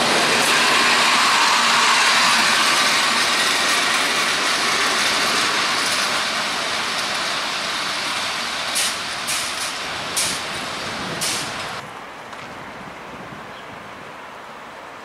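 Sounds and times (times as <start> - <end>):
train running noise: 0.0 - 14.1.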